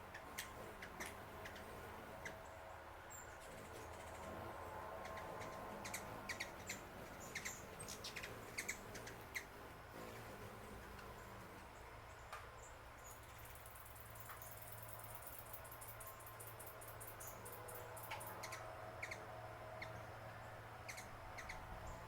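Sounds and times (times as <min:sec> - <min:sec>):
faint low hum: 0:00.0 - 0:22.0
small birds chirping: 0:00.0 - 0:22.0.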